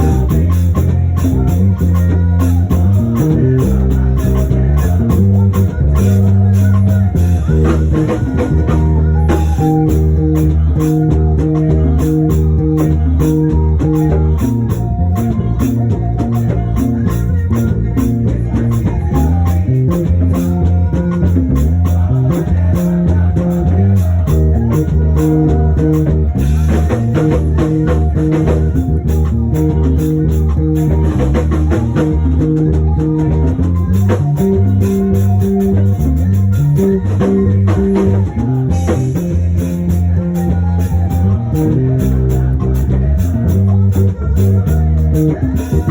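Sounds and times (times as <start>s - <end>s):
bass line: 0.0s - 45.9s
drum kit: 0.0s - 45.9s
guitar: 0.0s - 45.9s.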